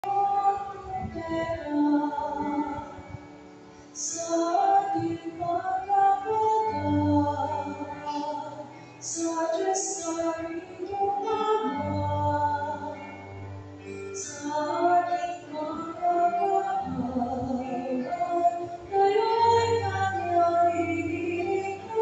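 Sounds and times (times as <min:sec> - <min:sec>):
woman singing: 0:00.0 - 0:03.1, 0:04.0 - 0:22.0.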